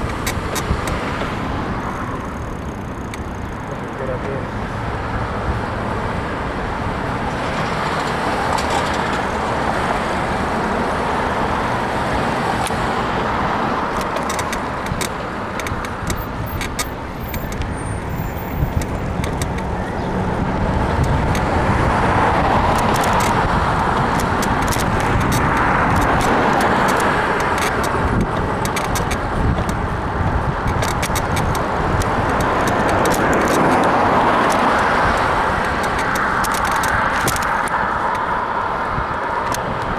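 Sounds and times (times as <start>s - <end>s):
wind on microphone: 0.0s - 3.6s, 5.1s - 39.9s
bike frame clicks and creaks: 0.0s - 4.6s, 7.3s - 10.6s, 11.2s - 39.9s
road and traffic noise: 0.0s - 39.9s.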